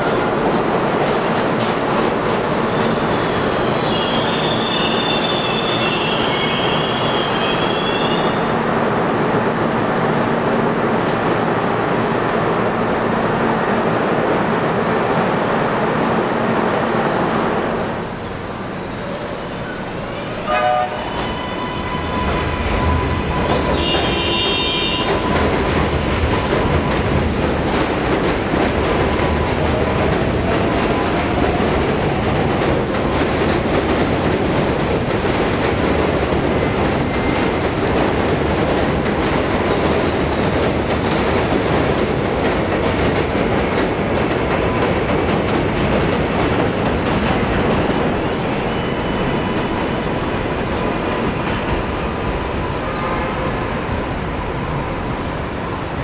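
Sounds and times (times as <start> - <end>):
train rumbling on steel track: 0.0 - 56.0.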